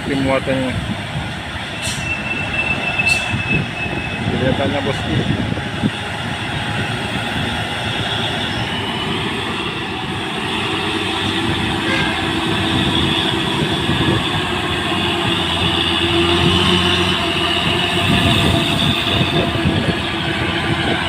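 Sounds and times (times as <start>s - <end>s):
truck diesel engine labouring: 0.0s - 21.0s.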